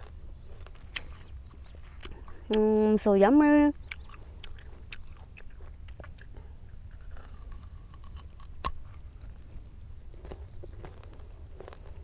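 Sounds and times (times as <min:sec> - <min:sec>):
wet chewing crunches: 0:00.0 - 0:02.7, 0:03.7 - 0:12.0.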